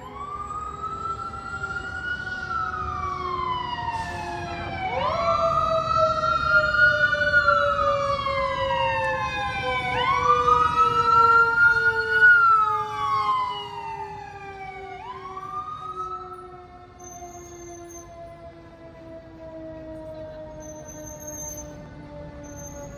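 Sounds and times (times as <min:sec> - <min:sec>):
fire engine siren wailing: 0:00.0 - 0:22.9.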